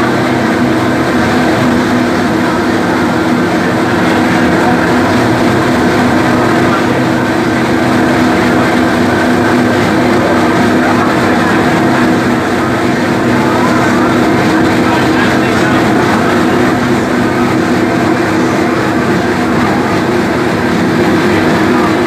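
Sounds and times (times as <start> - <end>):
boat engine hum: 0.0 - 22.0
freight train rumbling over bridge: 0.0 - 22.0.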